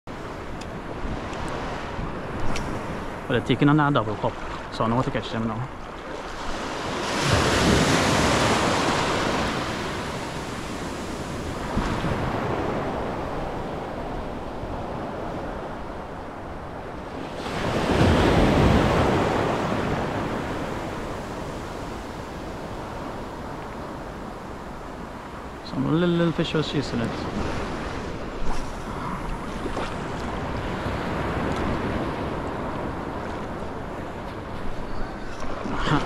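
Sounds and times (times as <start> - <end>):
small waves breaking on beach: 0.1 - 36.0.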